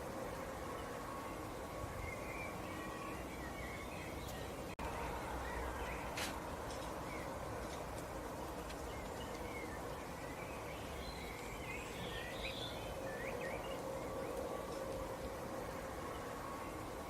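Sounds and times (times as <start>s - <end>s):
faint steady hum: 0.0s - 17.0s
small birds chirping: 0.0s - 17.0s.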